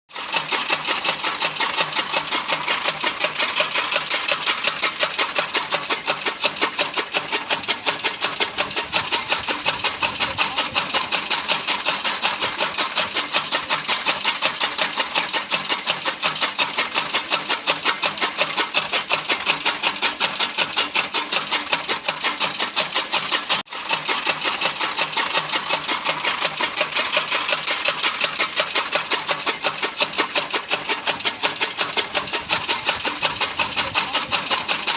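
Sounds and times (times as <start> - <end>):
chaff cutter chopping: 0.1 - 34.9.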